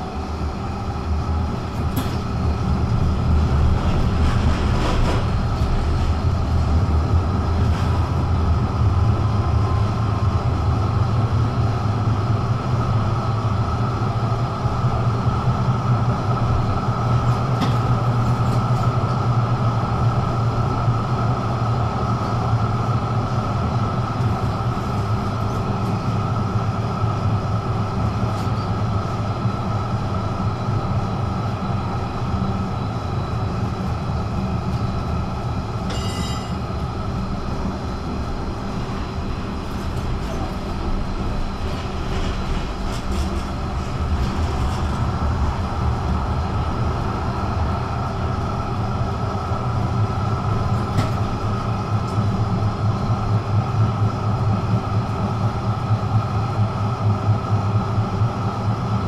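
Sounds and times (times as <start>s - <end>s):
tram electric drone: 0.0s - 59.0s.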